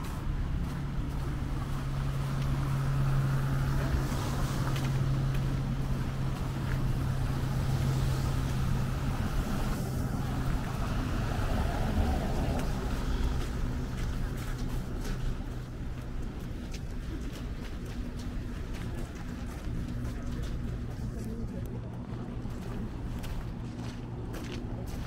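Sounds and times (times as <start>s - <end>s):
city street traffic hum: 0.0s - 25.0s.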